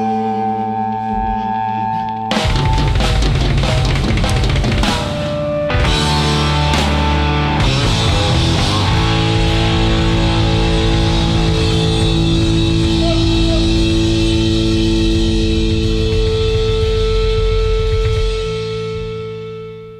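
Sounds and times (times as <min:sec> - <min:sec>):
electric guitar and bass: 0:00.0 - 0:19.9
drums playing: 0:02.3 - 0:19.5.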